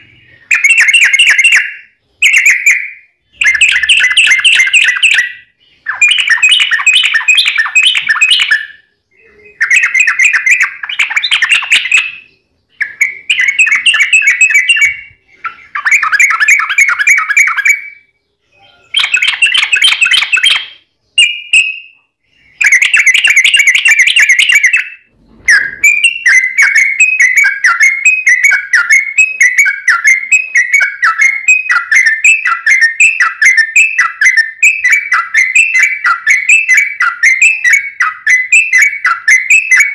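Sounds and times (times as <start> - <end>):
bird chattering song: 0.0 - 39.9
bird trill: 0.0 - 39.9.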